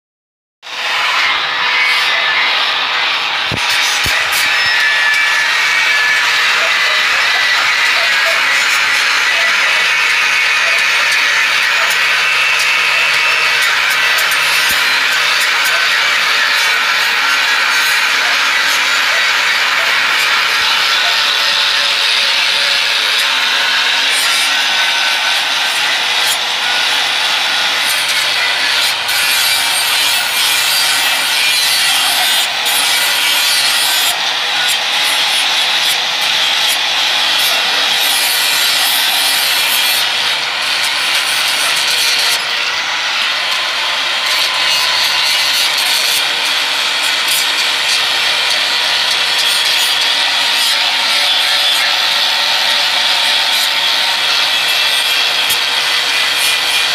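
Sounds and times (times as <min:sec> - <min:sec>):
angle grinder grinding metal: 0:00.6 - 0:56.9.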